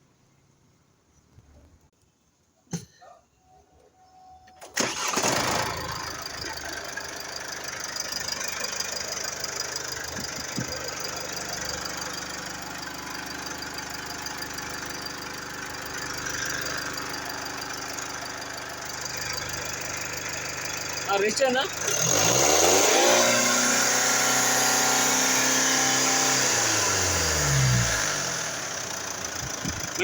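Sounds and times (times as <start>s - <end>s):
diesel engine starting and idling: 4.4s - 30.0s.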